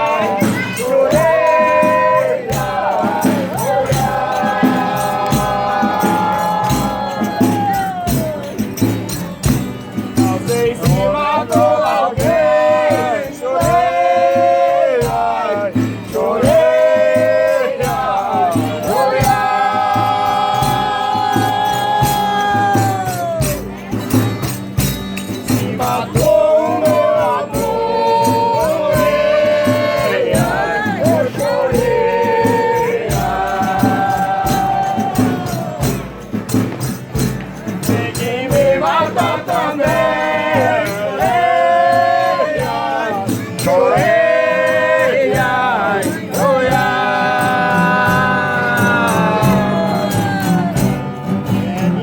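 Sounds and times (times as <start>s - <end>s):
group singing: 0.0s - 52.0s
tambourine shaking: 0.0s - 52.0s.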